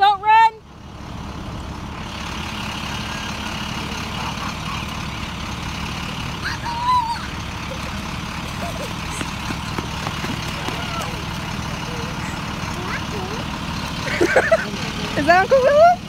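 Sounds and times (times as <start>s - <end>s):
diesel bus engines idling: 0.0s - 16.0s.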